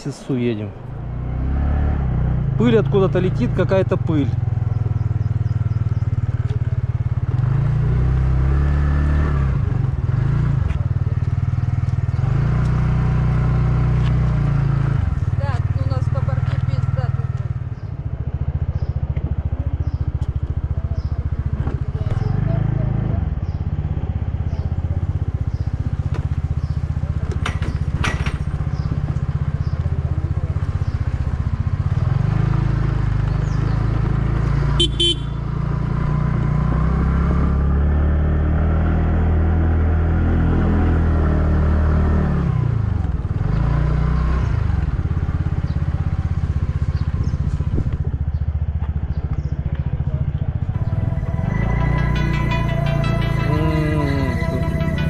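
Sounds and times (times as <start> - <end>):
motorcycle engine accelerating: 0.8 - 55.0.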